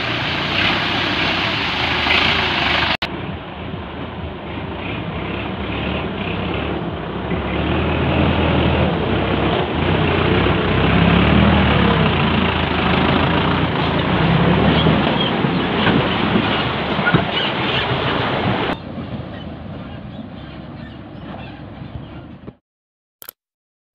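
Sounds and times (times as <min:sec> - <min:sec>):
tractor diesel engine under load: 0:00.0 - 0:22.6.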